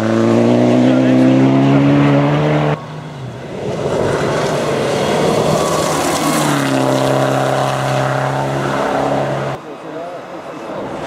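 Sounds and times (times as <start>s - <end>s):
rally car engine at high revs: 0.0s - 9.6s.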